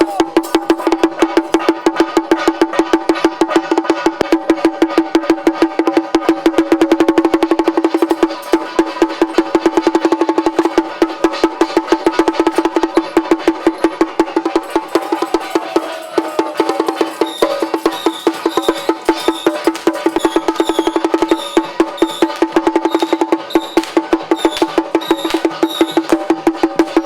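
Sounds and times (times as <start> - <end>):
pitched percussion strikes: 0.0 - 27.0.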